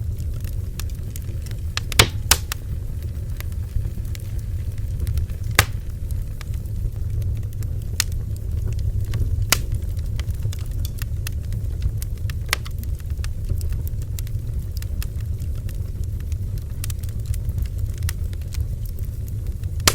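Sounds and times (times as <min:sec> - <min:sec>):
bonfire crackling and popping: 0:00.0 - 0:19.9
low rumble: 0:00.0 - 0:19.9.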